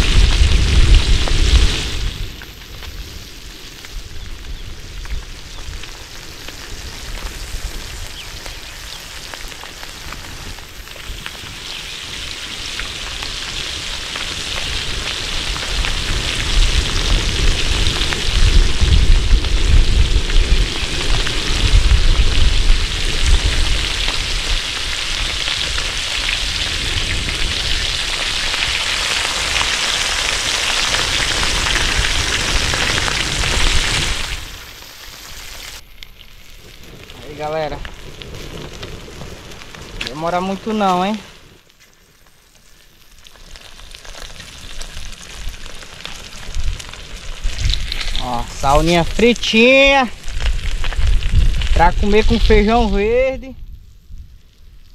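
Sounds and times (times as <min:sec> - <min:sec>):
fish frying in hot oil: 0:03.1 - 0:38.1, 0:42.1 - 0:53.2.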